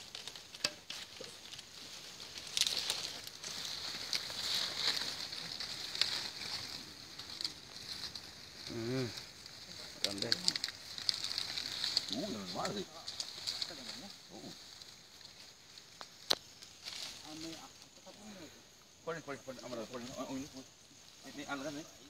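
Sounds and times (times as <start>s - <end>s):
dry palm fronds rustling: 0.0s - 22.0s.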